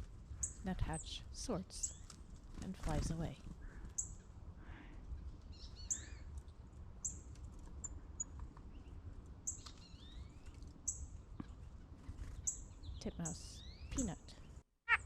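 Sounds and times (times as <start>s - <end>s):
songbirds chirping: 0.0s - 14.7s.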